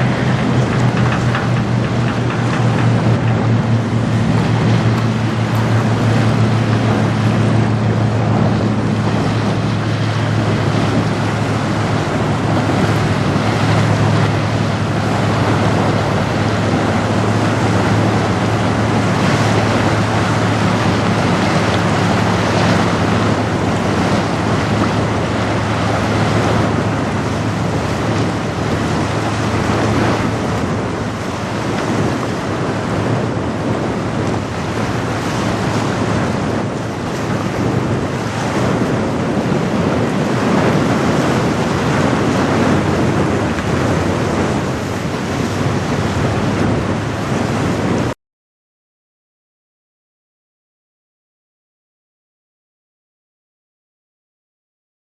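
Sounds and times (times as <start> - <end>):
boat engine droning: 0.0 - 48.2
choppy waves: 0.0 - 48.2
wind buffeting microphone: 0.0 - 48.2.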